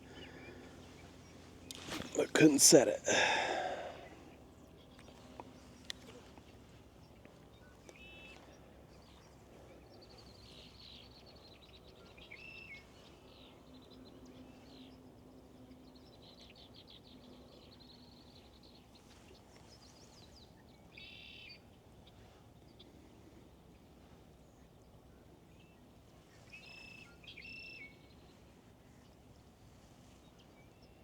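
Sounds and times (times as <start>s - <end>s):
songbirds singing and chirping: 0.0s - 31.0s.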